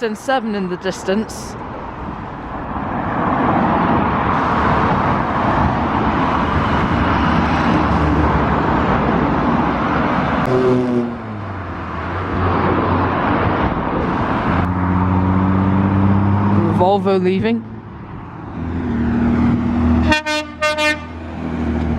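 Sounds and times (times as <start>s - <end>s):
vehicles driving past: 0.0s - 21.9s.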